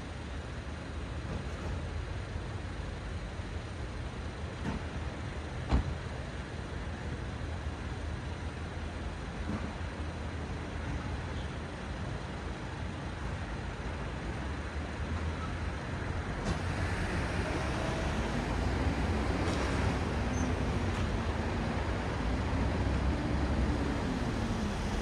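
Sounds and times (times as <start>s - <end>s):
road traffic hiss and rumble: 0.0s - 25.0s.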